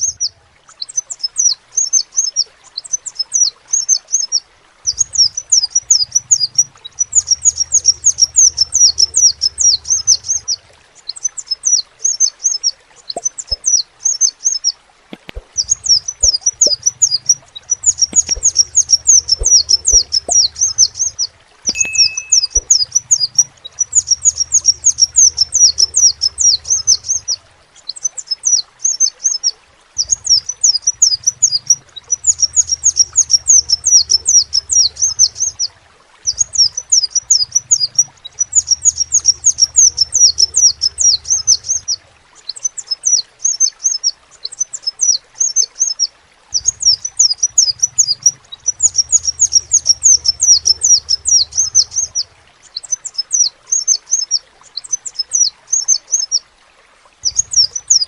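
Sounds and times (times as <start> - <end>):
bird chirping: 0.0 - 29.4, 30.0 - 35.7, 36.3 - 56.3, 57.2 - 58.0.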